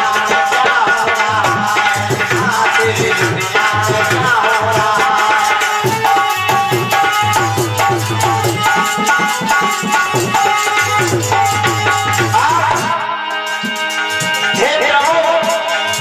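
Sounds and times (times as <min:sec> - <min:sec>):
hand drum rhythm: 0:00.0 - 0:16.0
shaker-like percussion: 0:00.0 - 0:16.0.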